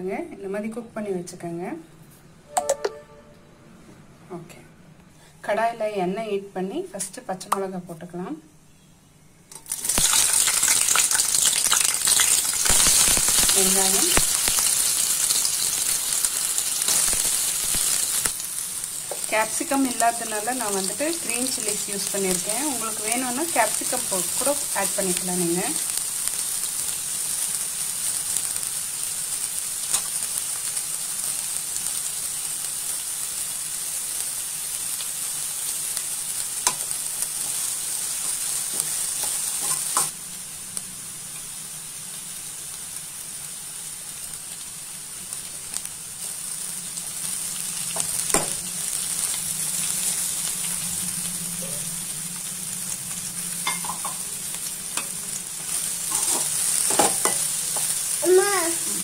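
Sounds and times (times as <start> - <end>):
vegetables sizzling in oil: 9.5 - 59.0.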